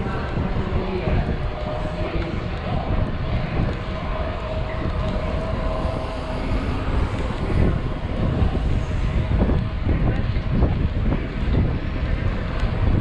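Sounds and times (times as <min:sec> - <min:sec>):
bike tires rolling on pavement: 0:00.0 - 0:13.0
wind buffeting microphone: 0:00.0 - 0:13.0.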